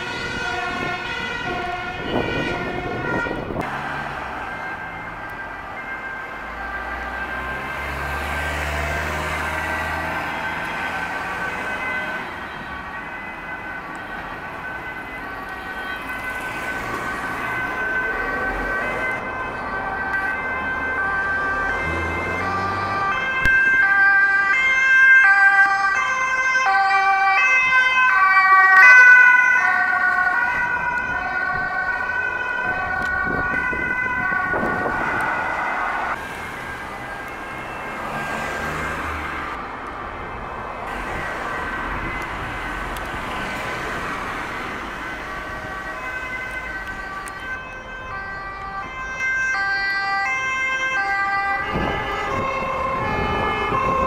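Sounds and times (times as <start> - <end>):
engine and traffic noise: 0.0 - 54.0
two-tone ambulance siren: 0.0 - 54.0.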